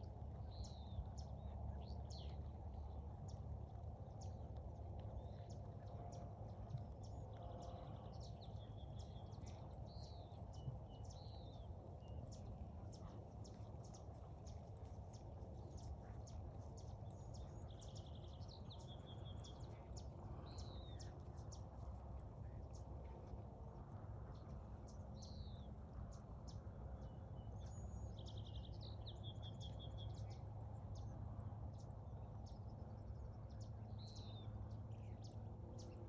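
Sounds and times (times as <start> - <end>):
low outdoor rumble: 0.0 - 36.0
songbird singing: 0.0 - 36.0.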